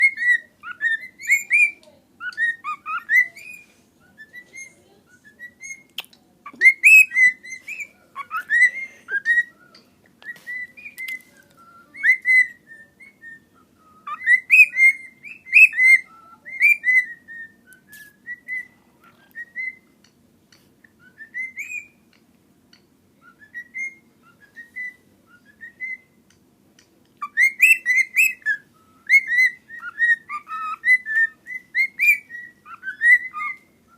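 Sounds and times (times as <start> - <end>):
pet bird whistling: 0.0 - 20.0, 20.9 - 22.1, 23.2 - 26.2, 27.2 - 33.9.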